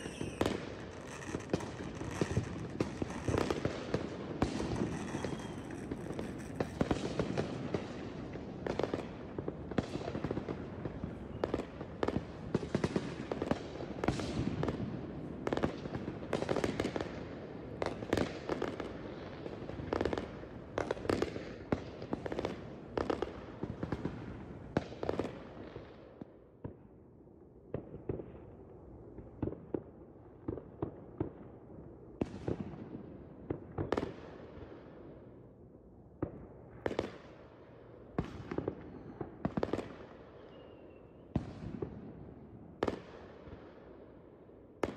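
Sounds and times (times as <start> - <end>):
fireworks bangs and crackling: 0.0 - 26.9, 27.7 - 35.3, 36.2 - 44.1.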